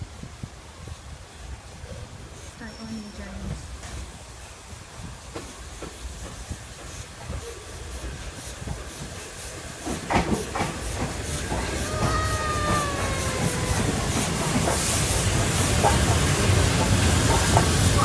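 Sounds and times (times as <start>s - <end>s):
steam locomotive hissing: 0.0s - 18.0s
rail clicks: 2.7s - 18.0s.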